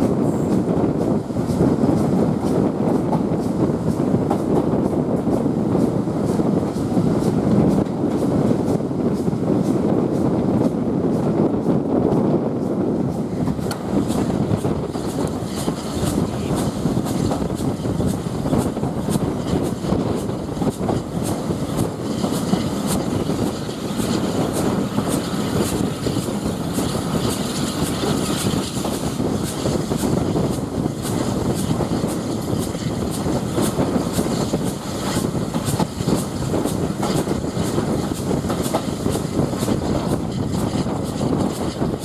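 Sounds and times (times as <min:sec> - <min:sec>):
railway coach rumble: 0:00.0 - 0:42.0.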